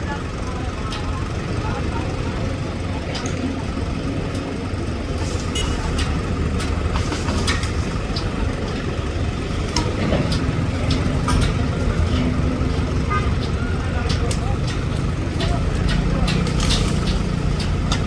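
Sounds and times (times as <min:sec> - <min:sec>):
engine low rumble: 0:00.0 - 0:18.0.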